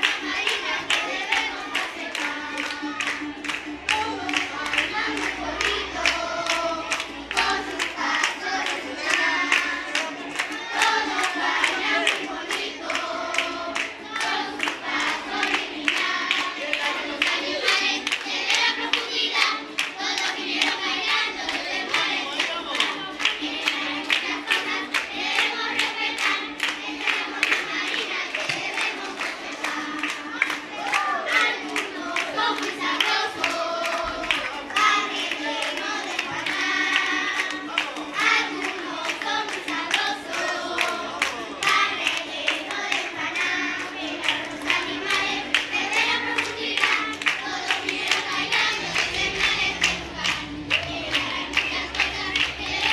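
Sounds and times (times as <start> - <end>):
children singing: 0.0 - 52.9
hands clapping in rhythm: 0.0 - 52.9.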